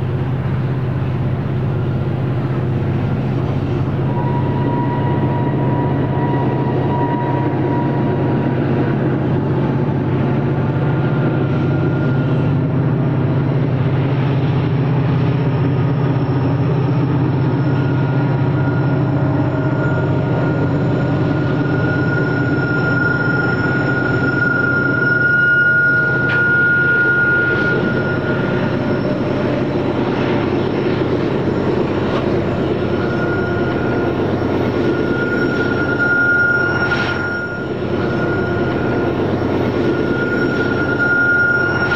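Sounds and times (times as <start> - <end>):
freight train rumbling: 0.0 - 41.9.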